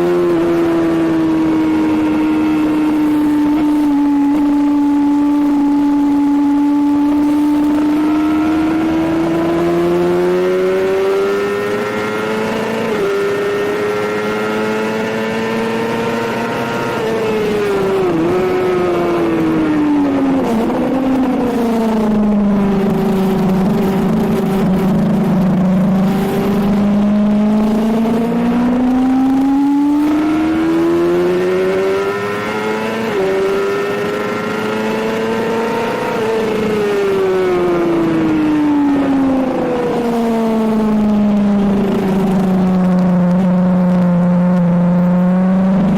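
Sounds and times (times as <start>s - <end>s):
motorcycle engine revving: 0.0s - 45.9s
wind rush: 0.0s - 45.9s.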